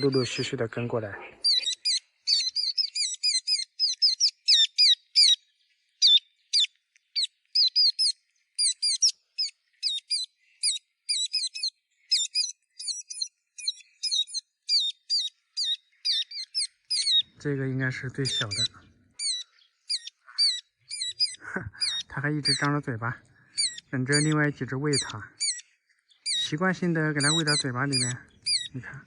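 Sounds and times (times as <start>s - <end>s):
young birds chirping: 0.0s - 29.0s.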